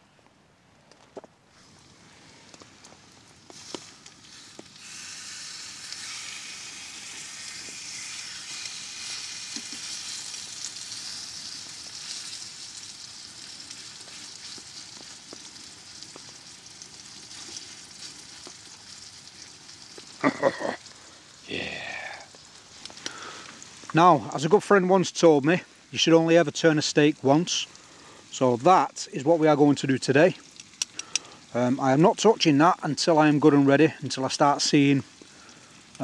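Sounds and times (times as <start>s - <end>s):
steak sizzling in a frying pan: 1.6s - 36.0s.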